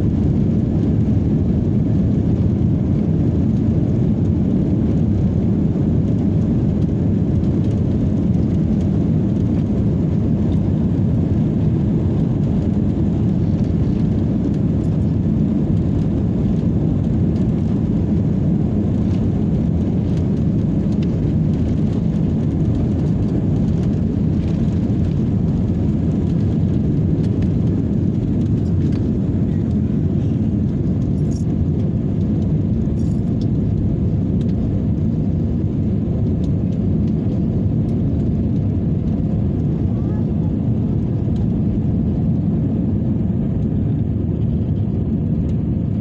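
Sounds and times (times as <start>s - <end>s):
airliner engines roaring: 0.0s - 46.0s.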